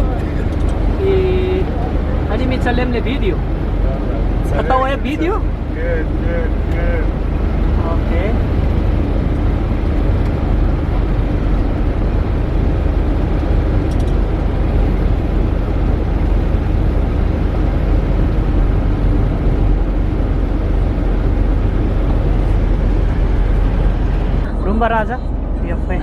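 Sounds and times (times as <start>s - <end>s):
vehicle road and engine rumble: 0.0s - 26.0s.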